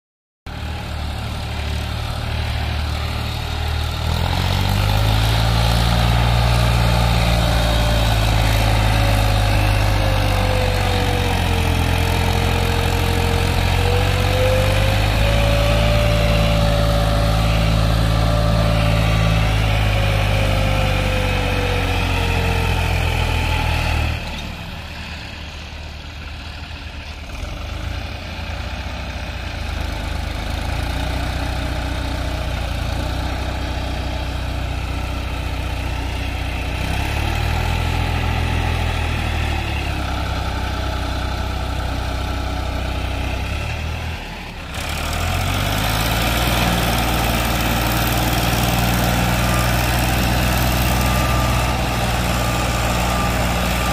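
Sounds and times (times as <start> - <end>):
tractor diesel engine under load: 0.5 - 53.9.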